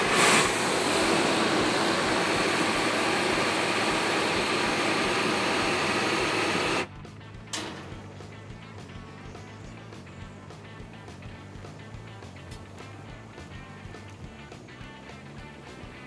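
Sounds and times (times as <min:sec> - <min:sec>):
gas torch hissing: 0:00.0 - 0:06.9, 0:07.6 - 0:16.0.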